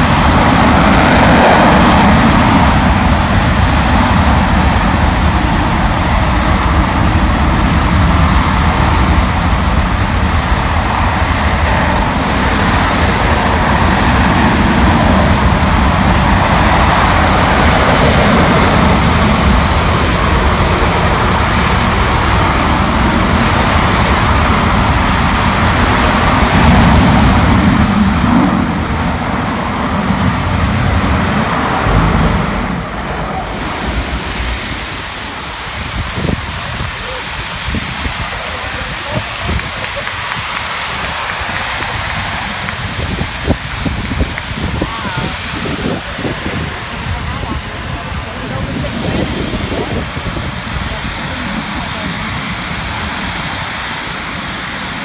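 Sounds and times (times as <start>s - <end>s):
rocket engine roaring: 0.0s - 55.0s.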